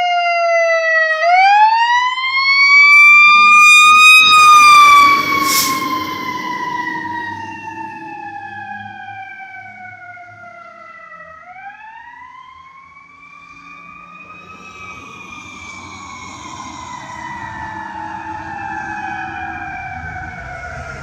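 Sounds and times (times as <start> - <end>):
fire truck siren wailing: 0.0 - 21.0
road noise: 0.0 - 21.0
truck engine: 1.0 - 21.0.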